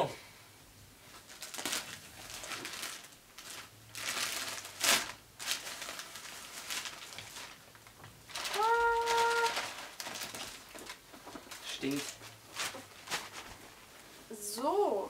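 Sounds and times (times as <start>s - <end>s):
plastic bag crinkling: 1.2s - 14.0s.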